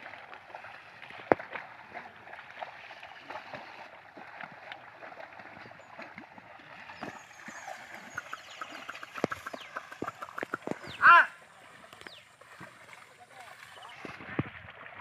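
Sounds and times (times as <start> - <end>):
small splashes and clicks: 0.0 - 15.0
water and mud sloshing: 0.0 - 15.0.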